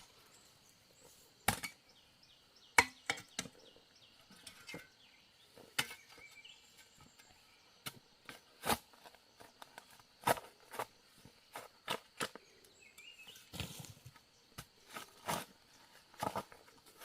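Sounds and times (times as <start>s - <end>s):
faint bird chirps: 0.0s - 10.0s, 12.1s - 16.9s.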